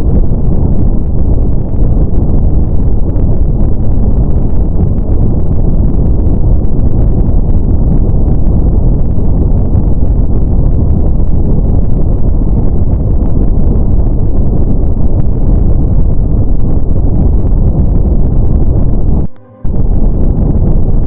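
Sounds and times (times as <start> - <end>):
brown noise hiss: 0.0 - 21.0.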